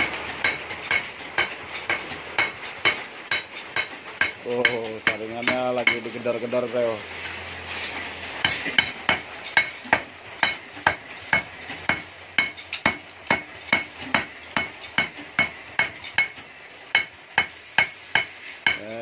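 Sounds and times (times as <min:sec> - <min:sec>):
hammer pounding metal tube: 0:00.0 - 0:06.1, 0:08.4 - 0:19.0.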